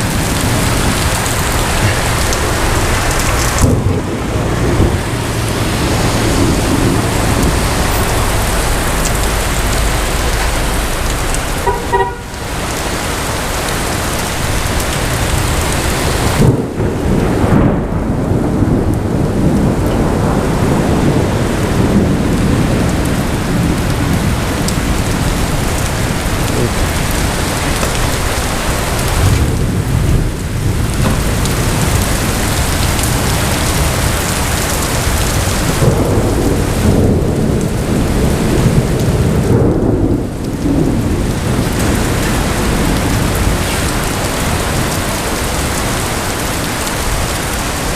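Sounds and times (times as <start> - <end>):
heavy rain pouring: 0.0 - 47.9
loud thunderclap: 0.0 - 47.9
thunder rumbling: 0.0 - 47.9.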